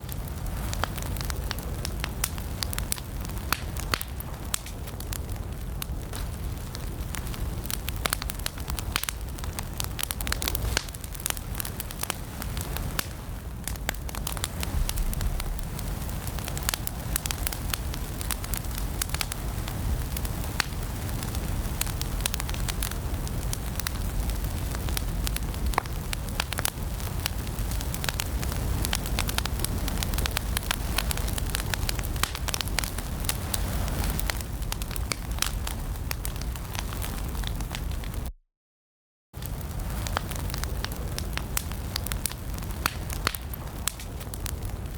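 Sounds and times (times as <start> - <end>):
fire crackling and popping: 0.0 - 38.3, 39.4 - 44.9
low rumble of flames: 0.0 - 38.3, 39.4 - 44.9.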